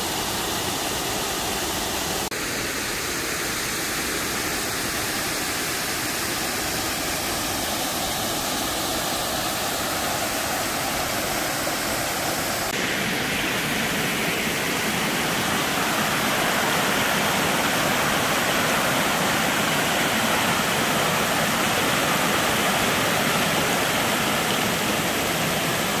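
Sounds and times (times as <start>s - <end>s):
water rushing over rocks: 4.0s - 26.0s.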